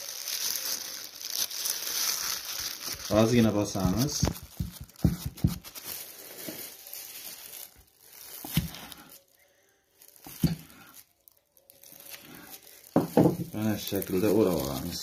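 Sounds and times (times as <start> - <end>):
plastic gloves crinkling: 0.0 - 15.0.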